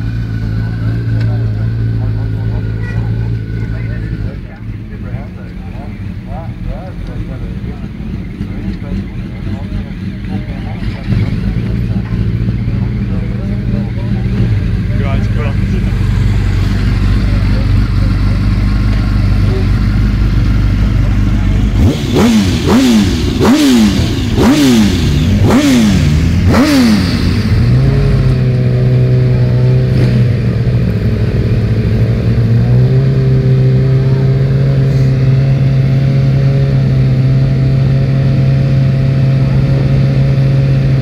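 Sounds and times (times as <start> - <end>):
racing motorcycle engines revving: 0.0 - 41.0.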